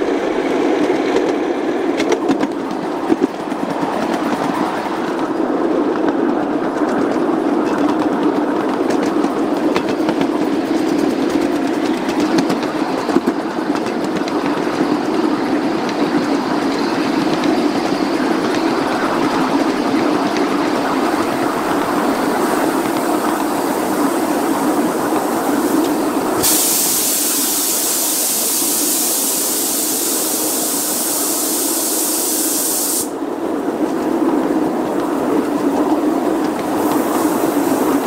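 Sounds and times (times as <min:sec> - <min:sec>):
wheels rumbling on rail: 0:00.0 - 0:38.0.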